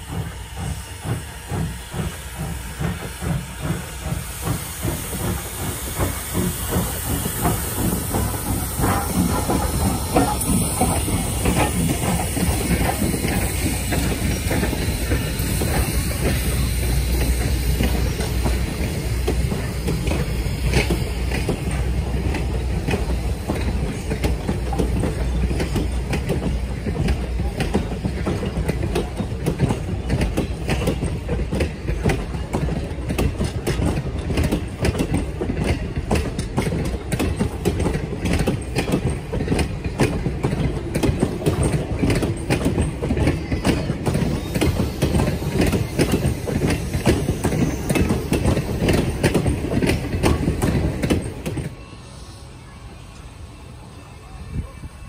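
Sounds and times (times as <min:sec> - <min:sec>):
train wheels clacking over rail joints: 0:00.0 - 0:51.8.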